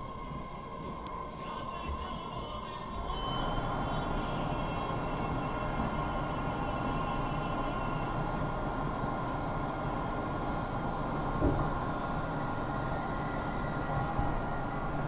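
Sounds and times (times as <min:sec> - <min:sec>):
subway car rumble: 0:00.0 - 0:15.0.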